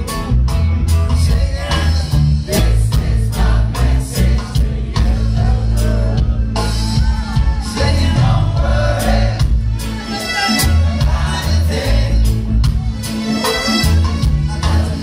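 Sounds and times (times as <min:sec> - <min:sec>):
reggae band playing: 0:00.0 - 0:15.0
lead singer: 0:01.0 - 0:12.8, 0:13.9 - 0:15.0.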